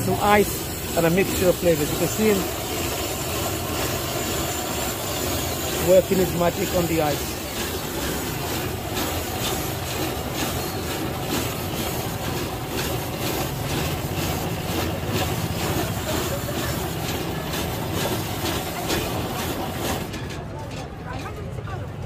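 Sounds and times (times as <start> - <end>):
ice being shaved: 0.0 - 20.1.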